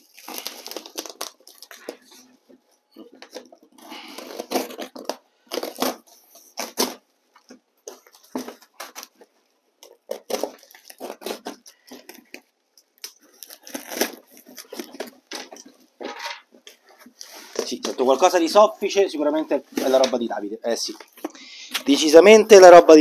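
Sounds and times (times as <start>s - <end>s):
cardboard and paper rustling: 0.0s - 22.1s.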